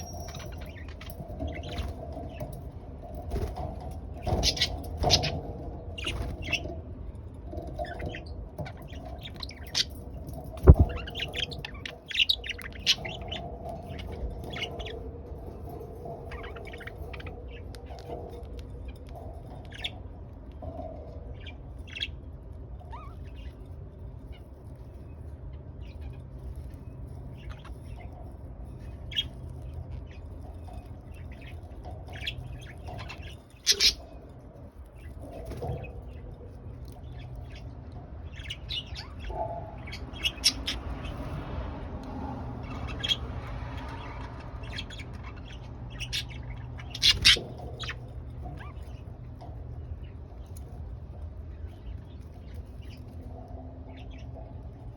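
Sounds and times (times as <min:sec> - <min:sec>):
budgerigars chirping: 0:00.0 - 0:02.6, 0:03.2 - 0:06.8, 0:07.5 - 0:20.1, 0:21.3 - 0:23.7, 0:24.3 - 0:41.5, 0:42.4 - 0:53.3.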